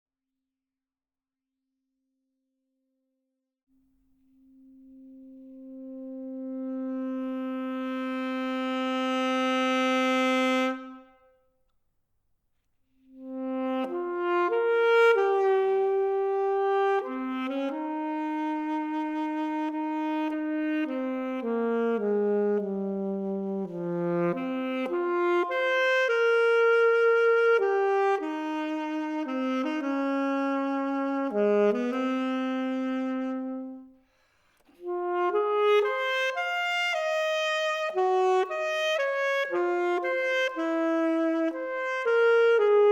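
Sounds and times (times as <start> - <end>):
saxophone solo: 4.5 - 11.3, 13.1 - 42.9.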